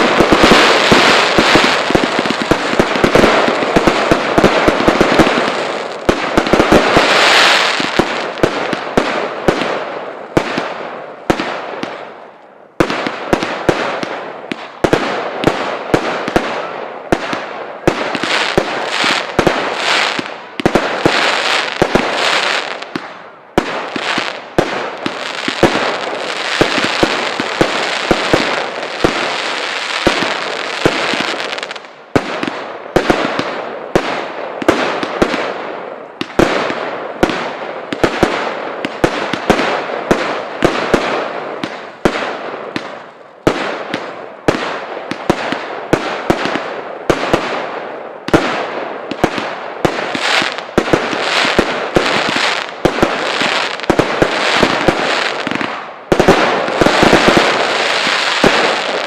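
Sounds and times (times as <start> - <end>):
firework crackling: 0.0 - 12.2, 12.8 - 35.6, 36.2 - 59.0.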